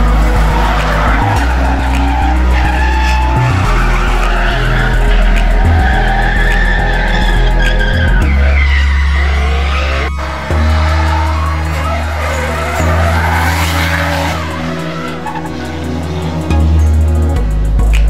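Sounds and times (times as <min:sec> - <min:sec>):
tyres squealing: 0:00.0 - 0:17.4
car engines revving hard: 0:00.0 - 0:18.0
music with heavy bass: 0:00.0 - 0:18.0.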